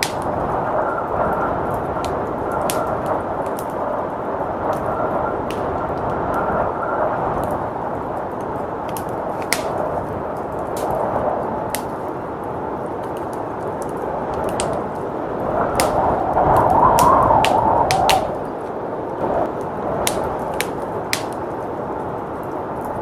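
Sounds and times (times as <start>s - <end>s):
blizzard wind rushing: 0.0s - 23.0s
wood fire crackling: 0.0s - 23.0s.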